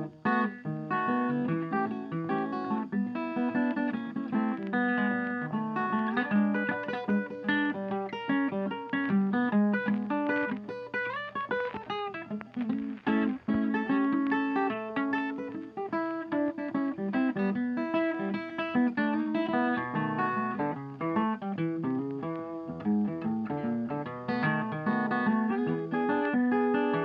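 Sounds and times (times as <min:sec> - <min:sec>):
bluesy acoustic guitar music: 0:00.0 - 0:27.0.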